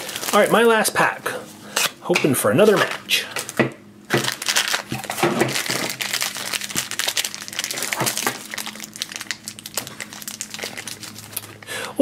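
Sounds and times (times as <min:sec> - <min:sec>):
plastic wrapper crumpling and tearing: 0:00.0 - 0:01.0, 0:02.6 - 0:11.7.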